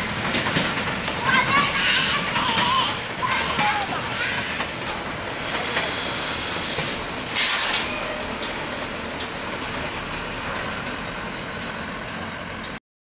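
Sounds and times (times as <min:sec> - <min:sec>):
vehicle noise: 0:00.0 - 0:12.8.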